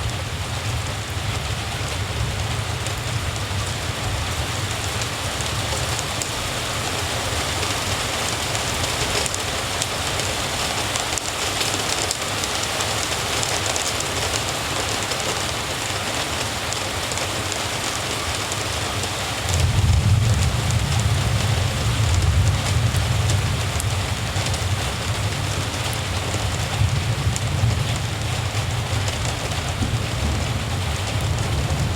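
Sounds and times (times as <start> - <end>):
steady rain hiss: 0.0 - 31.9.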